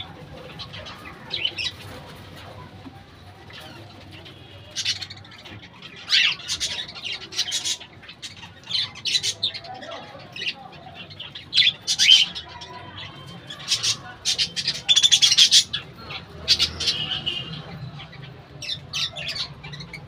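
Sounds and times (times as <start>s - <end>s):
budgerigars chirping and squawking: 0.0s - 20.0s.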